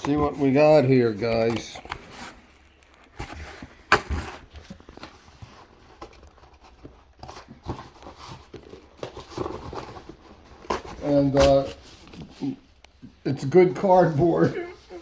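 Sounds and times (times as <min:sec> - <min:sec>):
cardboard rustling and tearing: 0:00.0 - 0:12.7.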